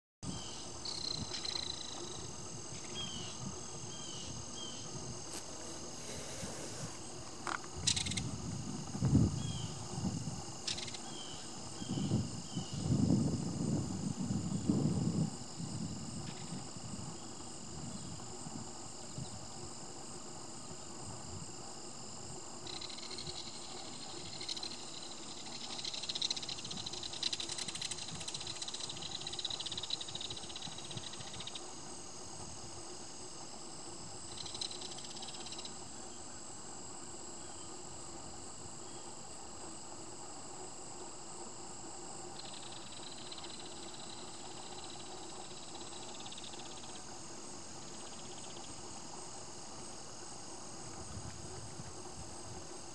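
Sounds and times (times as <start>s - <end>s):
crickets and insects trilling: 0.2s - 52.9s.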